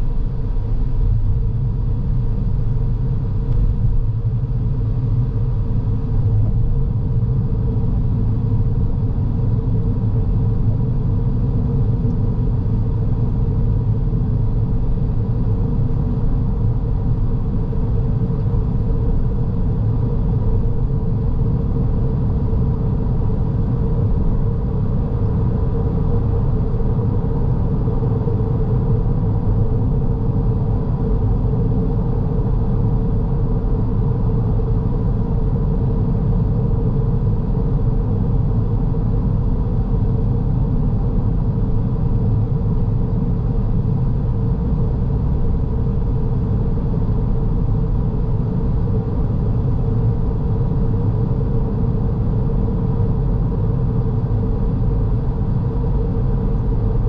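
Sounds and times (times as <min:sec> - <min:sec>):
car road and engine rumble: 0:00.0 - 0:57.0
steady hum: 0:00.0 - 0:57.0.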